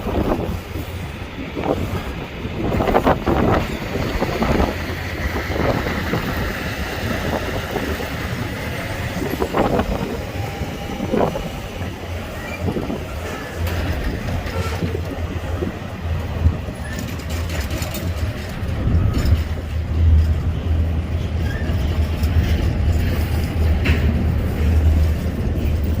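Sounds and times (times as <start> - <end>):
freight train rumble: 0.0 - 26.0
wheel clacks over rail joints: 0.0 - 26.0.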